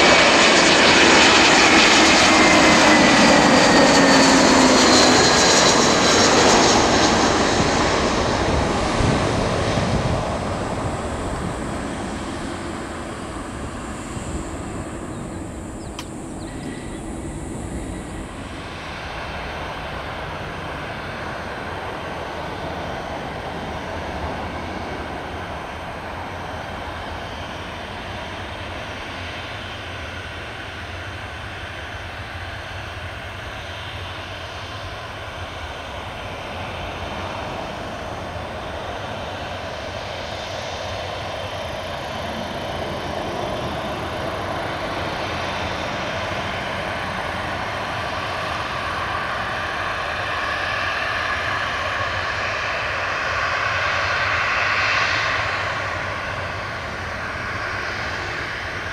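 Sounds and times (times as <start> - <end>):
jet engine whine overhead: 0.0 - 58.9
jet engines humming while taxiing: 0.0 - 58.9.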